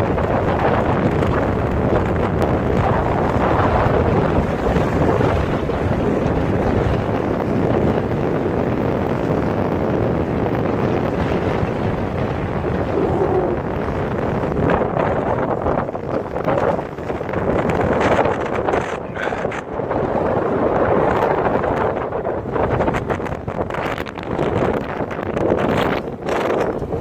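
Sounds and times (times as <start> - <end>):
waves washing past: 0.0 - 27.0
wind rushing over microphone: 0.0 - 27.0.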